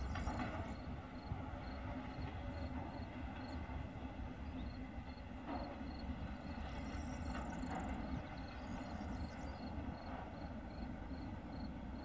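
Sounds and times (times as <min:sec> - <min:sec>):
distant diesel locomotive rumble: 0:00.0 - 0:12.0.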